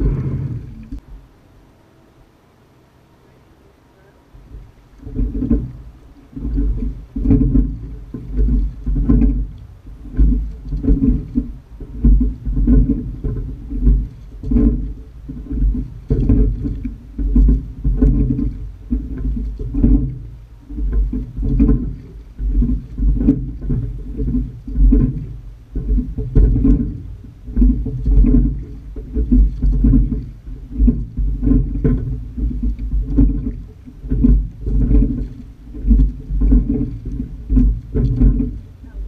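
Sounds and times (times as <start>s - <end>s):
oar strokes in water: 0.0s - 1.3s, 4.3s - 39.0s
low rushing water: 0.0s - 39.0s
oarlock clicks and knocks: 4.5s - 39.0s.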